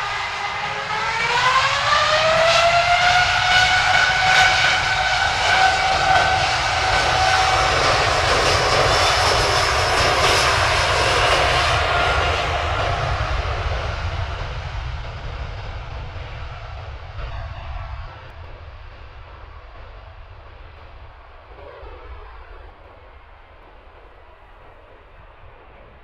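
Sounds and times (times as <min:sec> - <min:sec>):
engine noise rush: 0:00.0 - 0:26.0
jet engine whine: 0:00.0 - 0:26.0.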